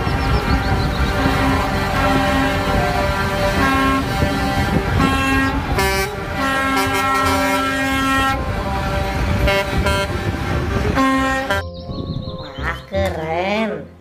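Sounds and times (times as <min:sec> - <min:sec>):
truck air horns honking: 0:00.0 - 0:11.7
low diesel rumble: 0:00.0 - 0:12.9.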